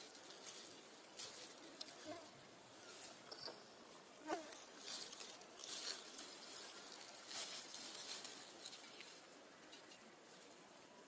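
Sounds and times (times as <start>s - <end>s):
faint rustling of fur and leaves: 0.0s - 11.0s.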